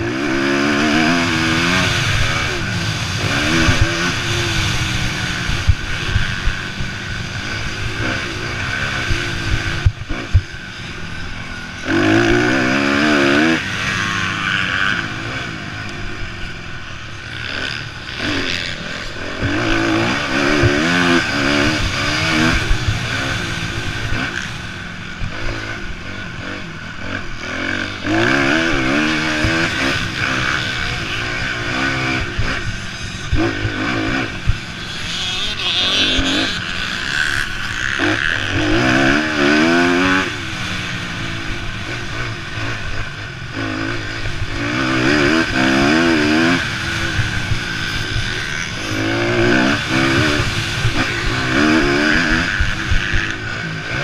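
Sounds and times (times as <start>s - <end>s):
motocross bikes revving: 0.0s - 54.0s.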